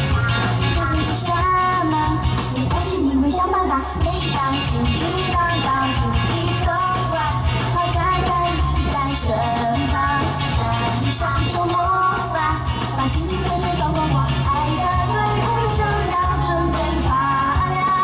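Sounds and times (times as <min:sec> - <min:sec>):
amplified pop backing music: 0:00.0 - 0:18.0
woman singing into microphone: 0:00.0 - 0:18.0.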